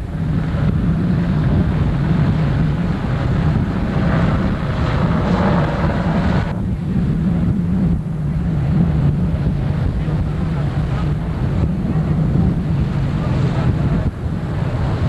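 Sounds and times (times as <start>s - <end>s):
powerboat engines droning: 0.0s - 15.0s
wind buffeting microphone: 0.0s - 15.0s.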